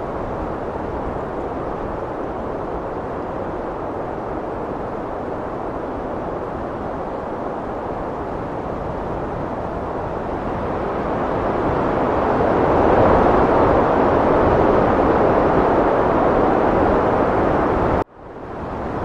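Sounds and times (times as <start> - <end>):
heavy wind blowing: 0.0 - 19.0.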